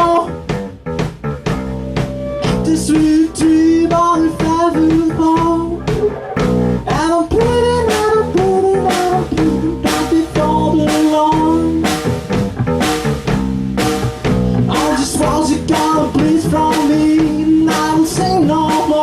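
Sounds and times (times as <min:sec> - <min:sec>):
bass guitar: 0:00.0 - 0:19.0
drum kit: 0:00.0 - 0:19.0
guitar: 0:00.0 - 0:19.0
sliding melody line like singing: 0:01.3 - 0:12.4, 0:14.0 - 0:19.0.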